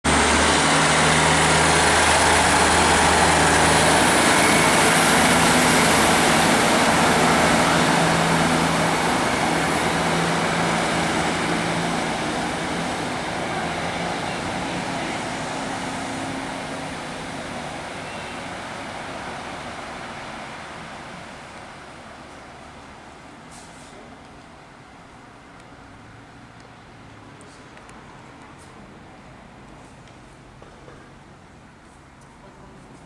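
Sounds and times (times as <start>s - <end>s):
diesel train engines running: 0.1s - 33.0s.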